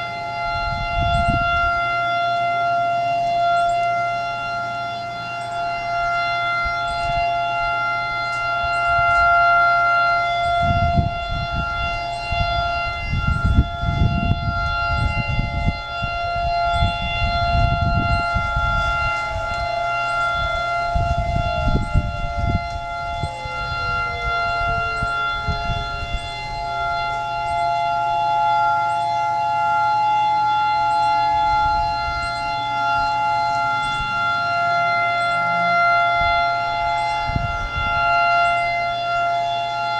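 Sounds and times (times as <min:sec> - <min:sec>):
siren tone sliding down in pitch: 0:00.0 - 0:39.9
warning siren steady tone: 0:00.0 - 0:39.9.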